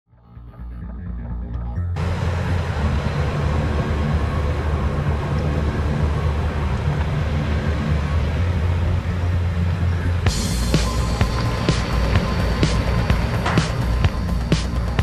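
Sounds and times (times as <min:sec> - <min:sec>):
vehicle engine and road noise: 0:00.4 - 0:15.0.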